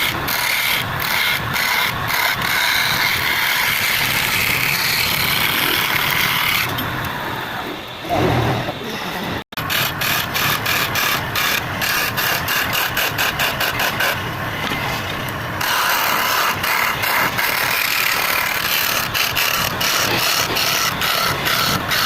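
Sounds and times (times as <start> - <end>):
tool scraping spinning wood: 0.0 - 7.2, 8.0 - 22.0
woodturning lathe running: 0.0 - 8.0, 9.6 - 22.0.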